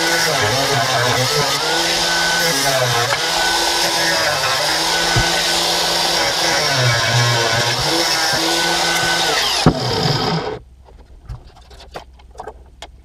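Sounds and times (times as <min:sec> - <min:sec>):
angle grinder grinding metal: 0:00.0 - 0:10.6.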